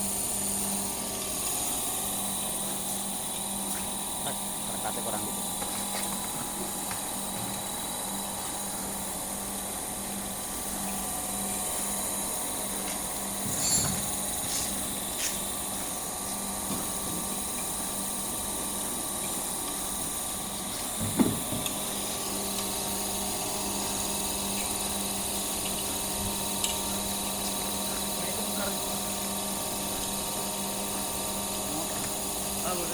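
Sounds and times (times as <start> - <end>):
extruder machine humming: 0.0 - 32.9.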